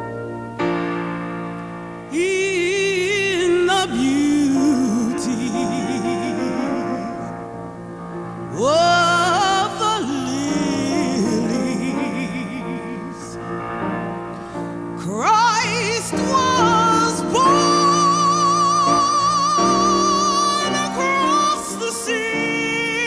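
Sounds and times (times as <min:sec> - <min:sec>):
person singing with wide vibrato: 0:02.0 - 0:23.0.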